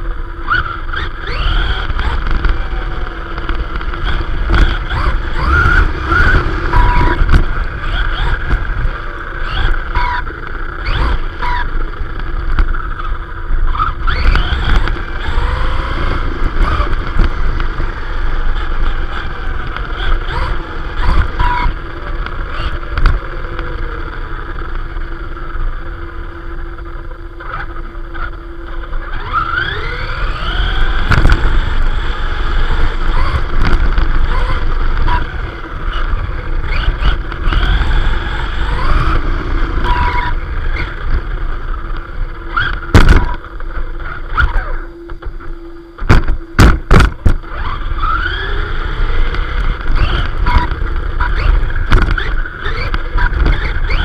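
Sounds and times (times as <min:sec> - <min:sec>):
electric motor whine: 0:00.0 - 0:54.0
tyres rumbling over tarmac: 0:00.0 - 0:54.0.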